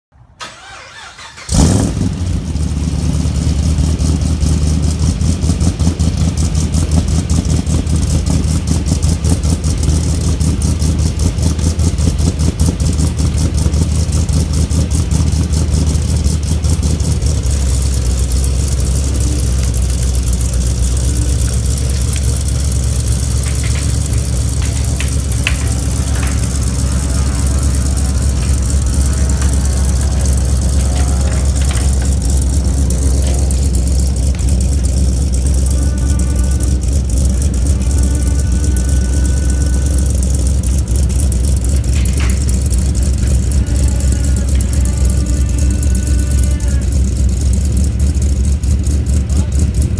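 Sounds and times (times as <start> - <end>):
car engine starting and idling: 0.1 - 49.9.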